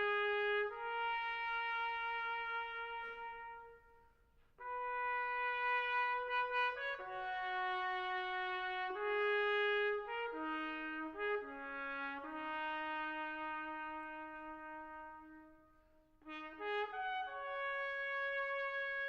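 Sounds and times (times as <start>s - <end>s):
slow brass notes: 0.0s - 19.0s.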